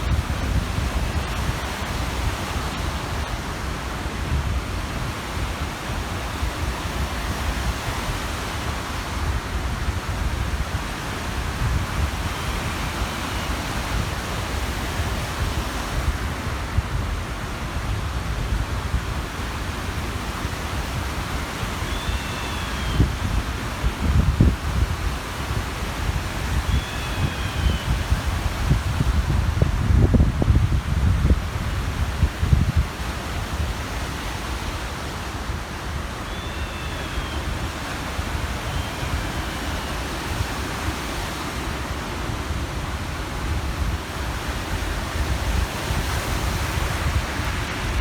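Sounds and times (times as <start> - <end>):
wind buffeting microphone: 0.0 - 21.8, 22.9 - 36.2, 37.4 - 48.0
small waves on a lakeshore: 0.0 - 48.0.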